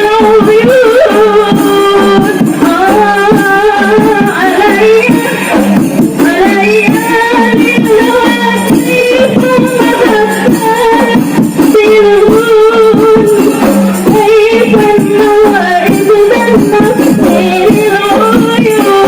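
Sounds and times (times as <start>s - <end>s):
frame drums beating: 0.0s - 19.0s
person singing: 0.0s - 19.0s.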